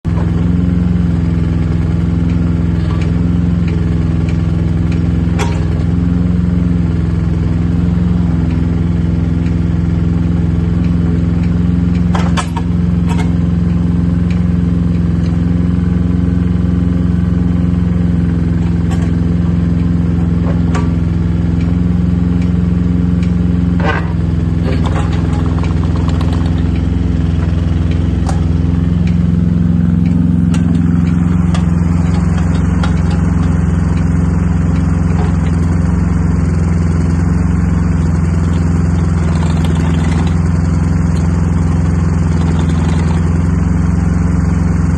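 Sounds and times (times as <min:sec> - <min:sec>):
diesel engine idling: 0:00.1 - 0:44.9.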